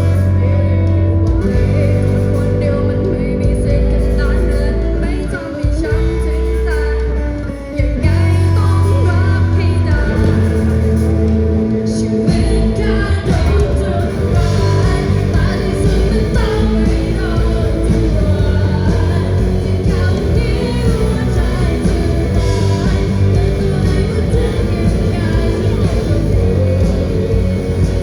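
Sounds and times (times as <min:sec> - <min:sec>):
live rock band playing: 0:00.0 - 0:28.0
person singing: 0:00.0 - 0:28.0.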